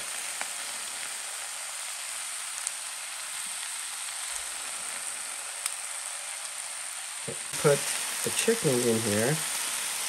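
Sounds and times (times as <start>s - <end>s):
vegetables sizzling in a pan: 0.0s - 10.0s.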